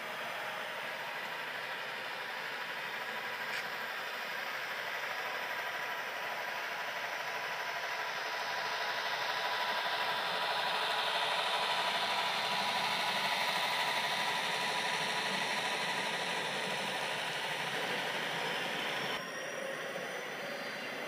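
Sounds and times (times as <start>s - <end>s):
model train motors whirring: 0.0s - 21.0s.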